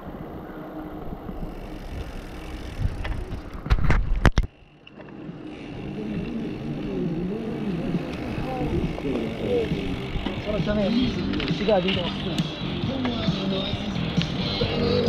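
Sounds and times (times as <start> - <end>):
bike rolling on asphalt: 0.0 - 15.0.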